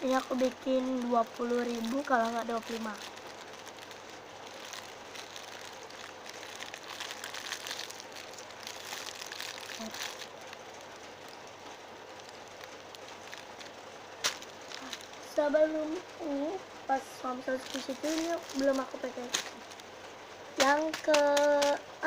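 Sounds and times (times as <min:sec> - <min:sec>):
paper crinkling and rustling: 0:00.0 - 0:15.4, 0:17.4 - 0:19.9, 0:20.6 - 0:21.8.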